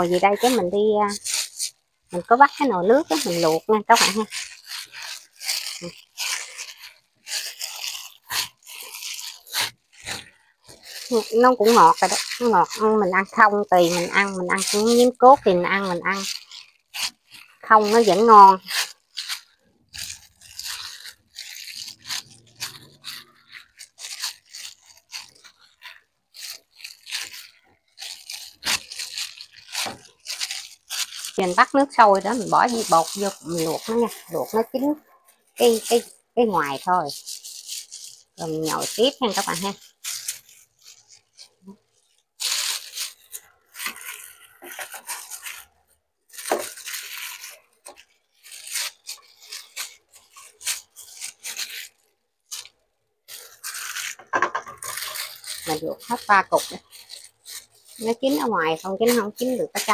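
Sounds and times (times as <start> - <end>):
plastic bag crinkling: 0.0 - 59.9.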